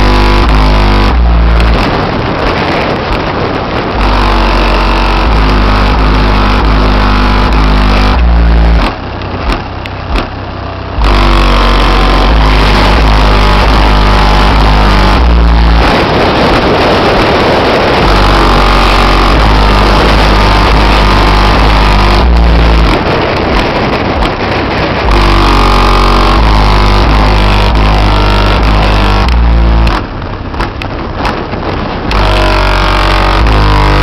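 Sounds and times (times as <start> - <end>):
deep bass music from subwoofers: 0.0 - 34.0.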